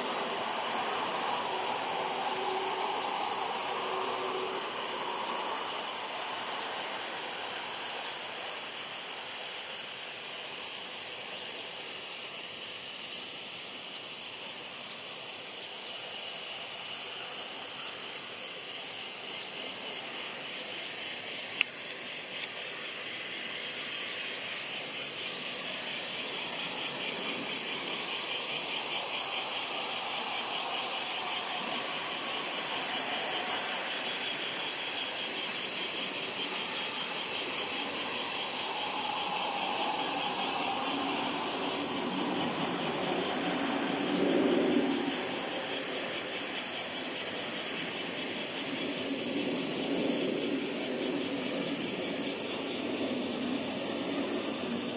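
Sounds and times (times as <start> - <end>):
cicadas droning: 0.0 - 54.9.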